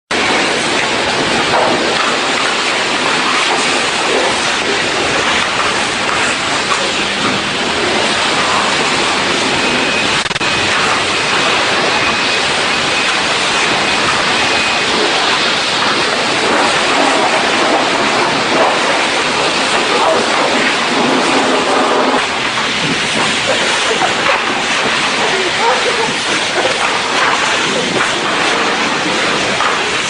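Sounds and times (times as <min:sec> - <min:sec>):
water spray rushing: 0:00.1 - 0:30.0.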